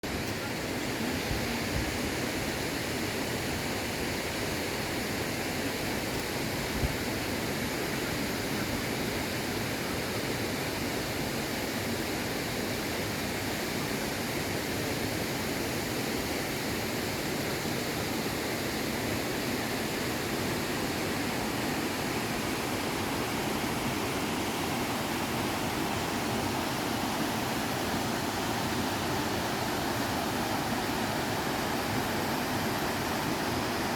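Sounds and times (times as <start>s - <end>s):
mountain river rushing: 0.0s - 33.9s.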